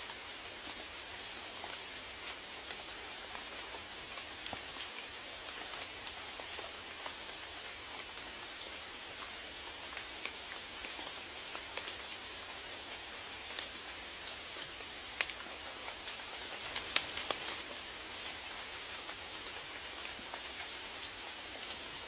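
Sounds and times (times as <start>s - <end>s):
raindrops ticking on a surface: 0.0s - 22.0s
steady rain patter: 0.0s - 22.0s.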